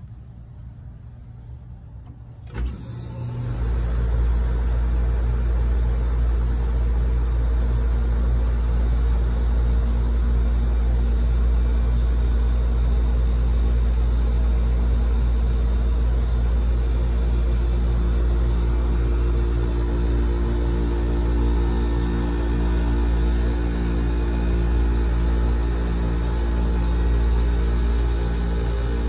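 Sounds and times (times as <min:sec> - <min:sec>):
air conditioner humming: 0:00.0 - 0:29.0.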